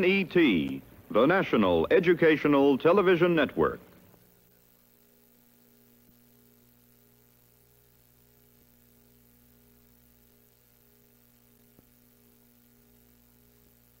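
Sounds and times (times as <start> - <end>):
faint hum and hiss: 0.0 - 14.0.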